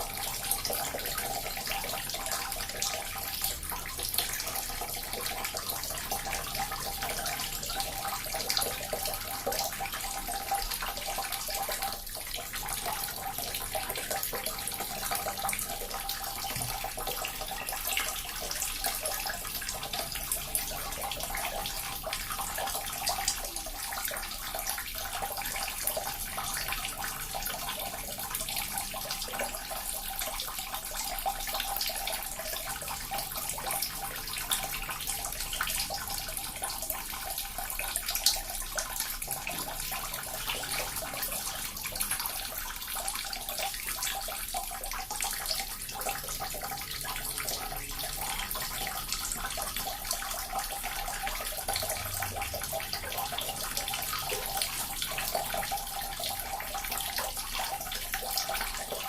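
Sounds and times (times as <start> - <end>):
water fountain trickling: 0.0 - 59.0.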